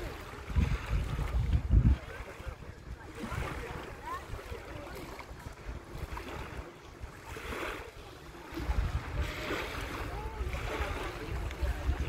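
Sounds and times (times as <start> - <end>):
small waves lapping: 0.0 - 12.0
wind buffeting microphone: 0.0 - 12.0.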